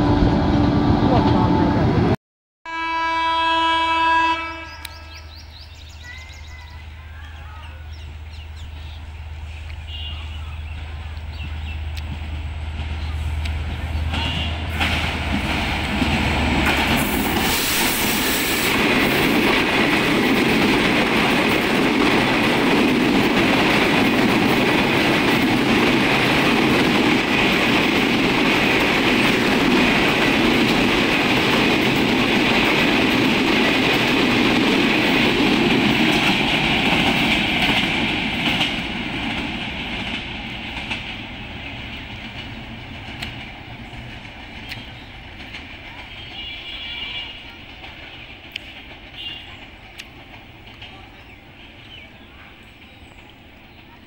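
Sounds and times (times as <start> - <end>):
train passing at speed: 0.0 - 54.0
train wheels rolling on rails: 5.4 - 54.0.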